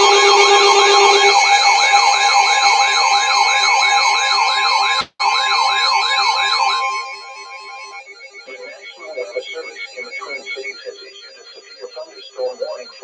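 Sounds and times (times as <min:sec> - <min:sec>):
steady alert tones: 0:00.0 - 0:11.6
electronic siren sweeping: 0:00.0 - 0:13.0.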